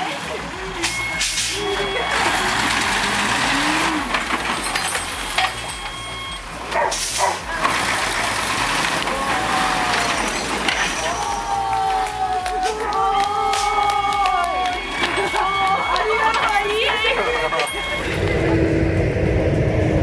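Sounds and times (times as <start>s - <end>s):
sharp burst of noise: 0.0s - 20.0s
truck engine running: 0.0s - 20.0s
voices calling out: 0.0s - 20.0s.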